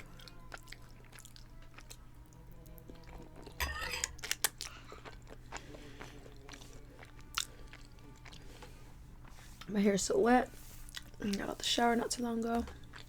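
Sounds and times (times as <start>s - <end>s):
person chewing food: 0.0s - 9.7s, 10.6s - 11.4s, 12.4s - 13.0s.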